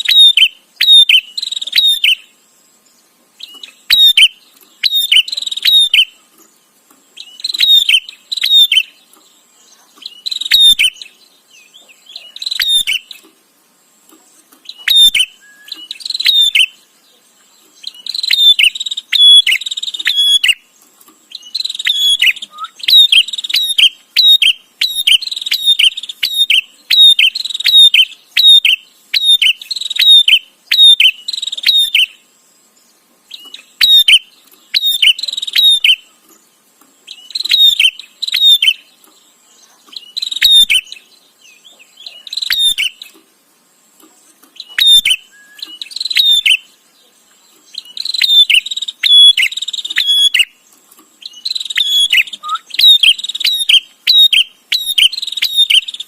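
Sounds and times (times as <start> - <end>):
bird chirping rapidly: 0.0 - 13.3, 14.3 - 43.2, 44.4 - 56.0.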